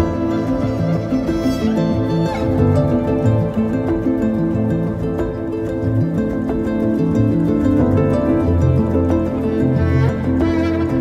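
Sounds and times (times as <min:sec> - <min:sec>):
harp-like string melody: 0:00.0 - 0:11.0
low bass line: 0:00.0 - 0:11.0.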